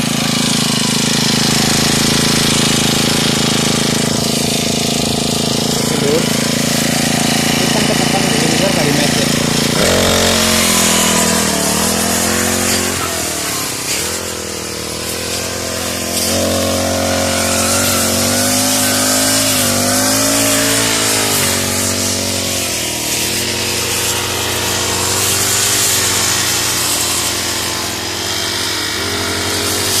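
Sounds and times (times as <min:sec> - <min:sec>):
brush cutter engines revving: 0:00.0 - 0:30.0.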